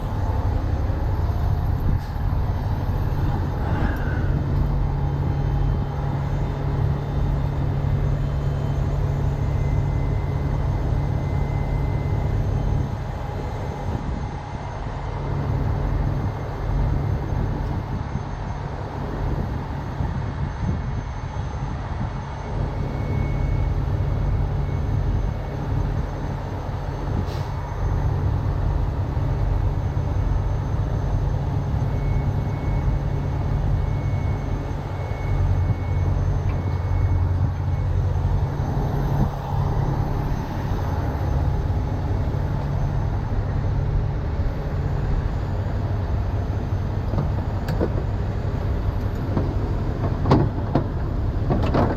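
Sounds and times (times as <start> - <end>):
diesel engine rumbling: 0.0 - 51.9.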